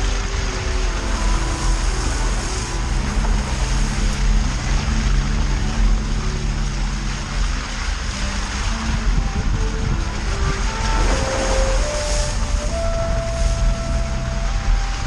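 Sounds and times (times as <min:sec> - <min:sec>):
tyre and road noise: 0:00.0 - 0:15.0
vehicle engine under load: 0:00.0 - 0:15.0.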